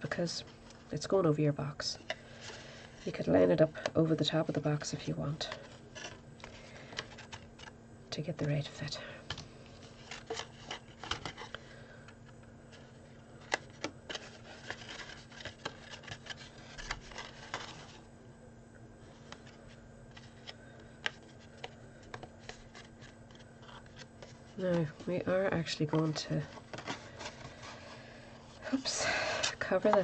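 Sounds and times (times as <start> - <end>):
cardstock rustling and crackling: 2.0 - 18.1, 19.1 - 30.0.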